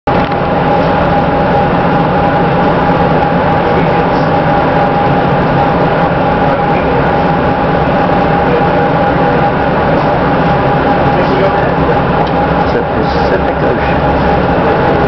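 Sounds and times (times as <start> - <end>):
constant tone: 0.1 - 15.0
train wheels rumbling on track: 0.1 - 15.0.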